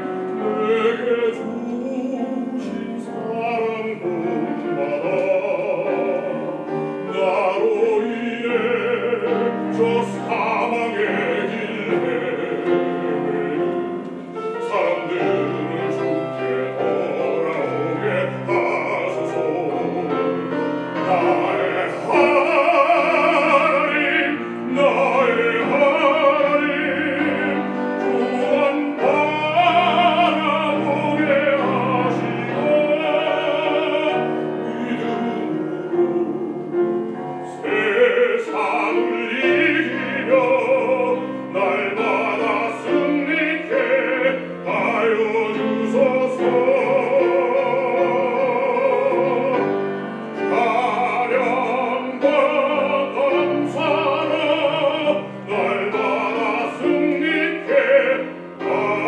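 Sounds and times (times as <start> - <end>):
man singing operatically: 0.0 - 59.0
piano: 0.0 - 59.0.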